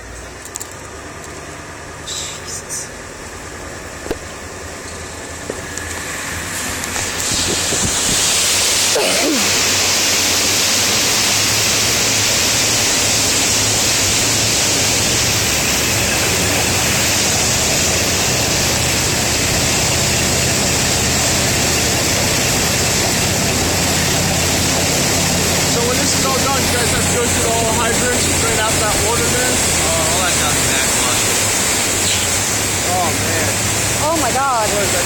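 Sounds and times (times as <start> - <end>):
low engine hum: 0.0 - 35.0
floodwater churning and splashing: 3.0 - 35.0.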